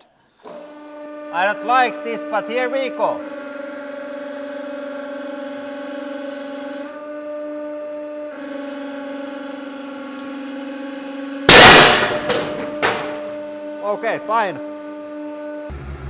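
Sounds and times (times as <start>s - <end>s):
hydraulic press humming: 0.0s - 13.9s.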